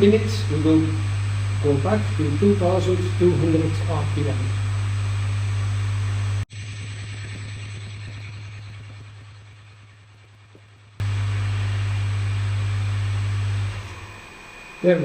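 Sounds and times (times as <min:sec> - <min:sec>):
pool pump motor humming: 0:00.0 - 0:15.0.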